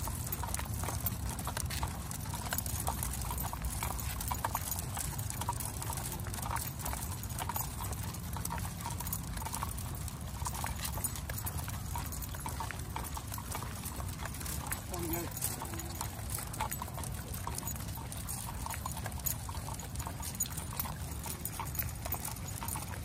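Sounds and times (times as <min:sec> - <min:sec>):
dog claws clicking on pavement: 0:00.0 - 0:23.0.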